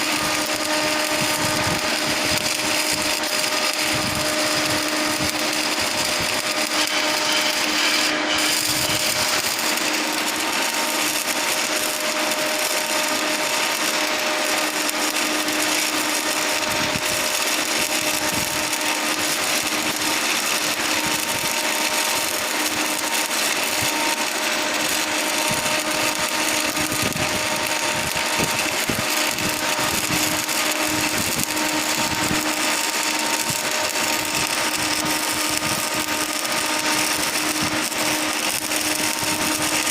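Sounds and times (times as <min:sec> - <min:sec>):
arc welding crackling hiss: 0:00.0 - 0:39.9.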